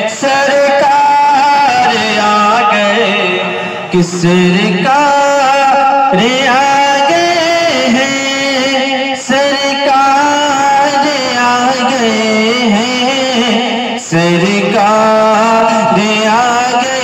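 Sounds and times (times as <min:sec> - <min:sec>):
man singing through a microphone: 0:00.0 - 0:17.0.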